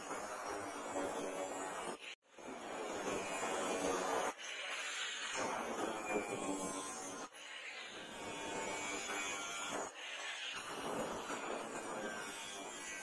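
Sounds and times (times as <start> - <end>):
angle grinder grinding steel: 0.0 - 13.0.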